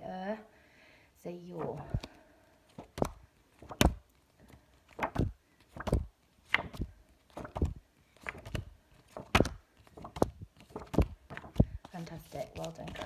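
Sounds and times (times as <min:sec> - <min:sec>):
paper flashcards tapping: 0:01.6 - 0:13.0.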